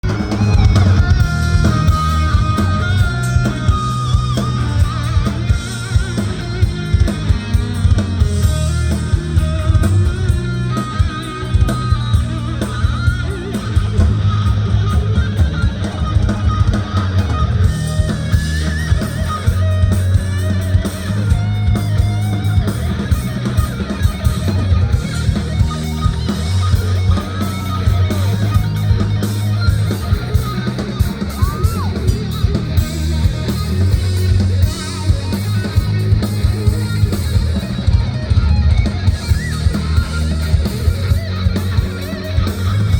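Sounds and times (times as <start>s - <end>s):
lead guitar bending notes: 0.0s - 42.9s
rock music: 0.0s - 42.9s.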